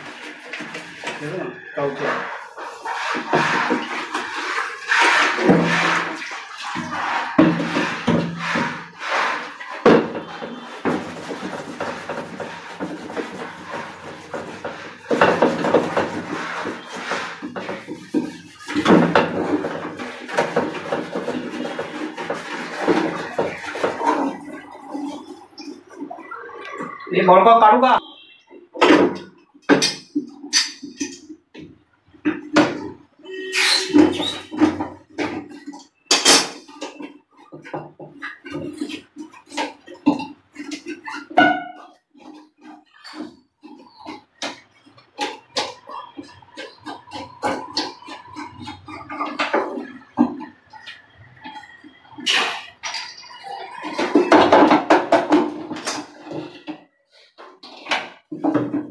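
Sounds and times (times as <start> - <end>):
scrubbing inside plastic cistern: 0.0 - 27.4, 28.0 - 58.9.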